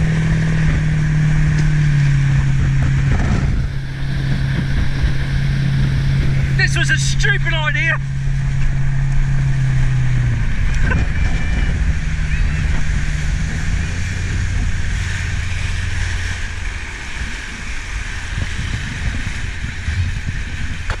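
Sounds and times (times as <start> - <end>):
churning boat wake: 0.0 - 21.0
motorboat engine hum: 0.0 - 21.0
wind on microphone: 0.0 - 21.0.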